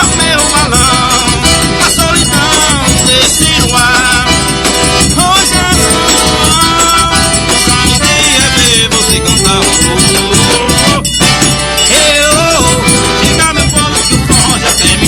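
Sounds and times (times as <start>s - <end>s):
fast live folk dance music: 0.0s - 15.0s.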